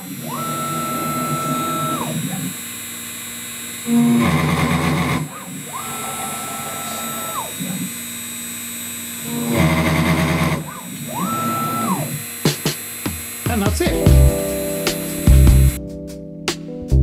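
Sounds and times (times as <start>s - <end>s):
cnc router motor whine: 0.0s - 15.8s
drill cutting into metal: 0.0s - 15.8s.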